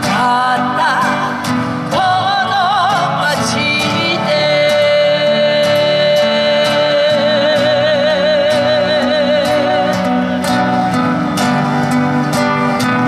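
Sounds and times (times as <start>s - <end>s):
acoustic guitars strumming: 0.0s - 13.0s
person singing with vibrato: 0.0s - 13.0s.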